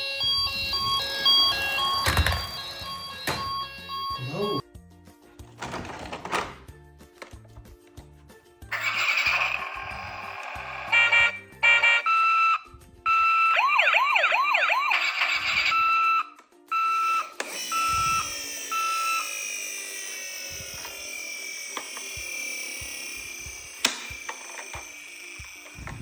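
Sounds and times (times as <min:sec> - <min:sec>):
toy electronic siren: 0:00.0 - 0:04.6, 0:08.7 - 0:26.0.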